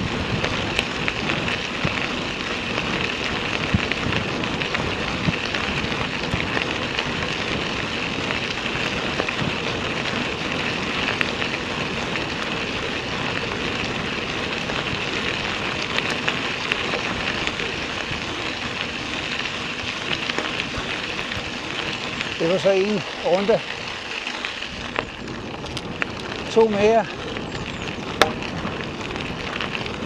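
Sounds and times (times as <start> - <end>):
bike tyres crunching on gravel: 0.0 - 30.0.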